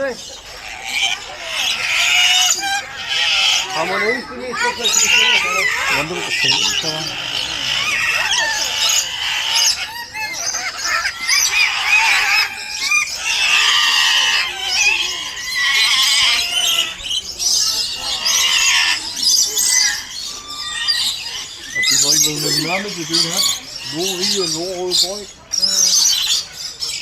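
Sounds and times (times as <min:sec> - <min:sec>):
chorus of birds calling: 0:00.0 - 0:27.0.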